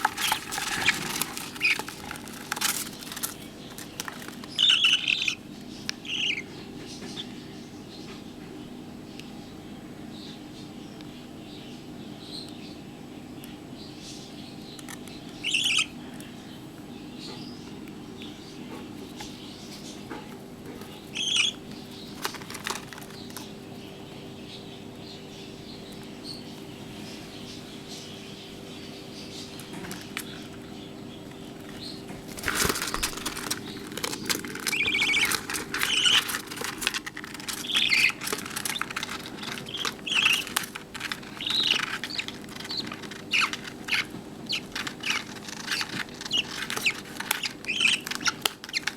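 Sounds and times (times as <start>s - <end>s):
chicks scratching and rustling: 0.0s - 8.6s, 14.0s - 48.9s.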